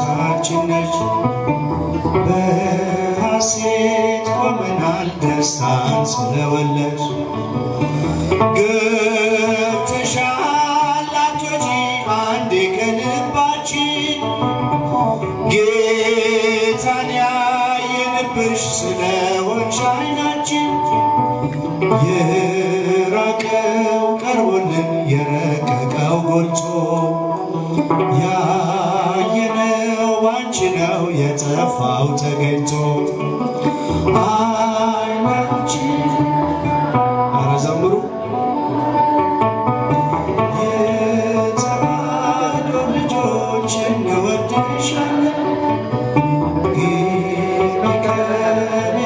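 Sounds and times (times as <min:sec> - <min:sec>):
man singing a hymn: 0:00.0 - 0:49.0
musical accompaniment: 0:00.0 - 0:49.0.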